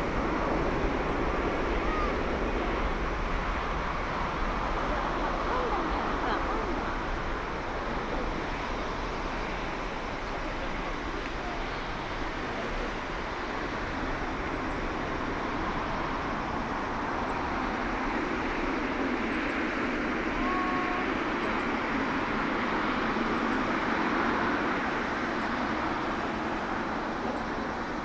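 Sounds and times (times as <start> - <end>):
jet engines at take-off thrust: 0.0 - 28.0.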